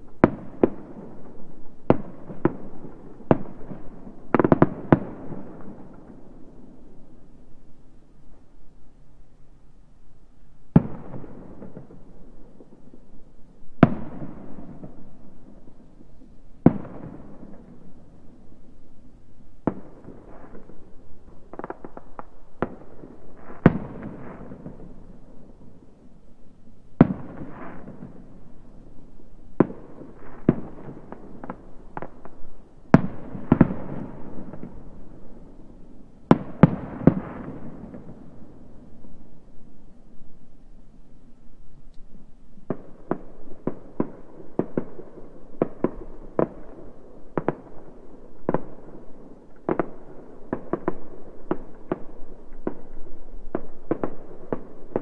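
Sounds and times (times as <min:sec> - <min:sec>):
distant fireworks bursting: 0:00.0 - 0:08.4, 0:10.4 - 0:40.6, 0:42.1 - 0:55.0.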